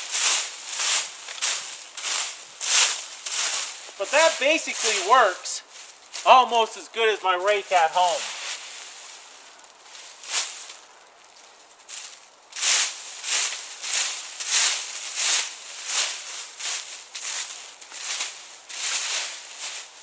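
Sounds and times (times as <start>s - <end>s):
rake dragged through dry leaves: 0.0s - 20.0s.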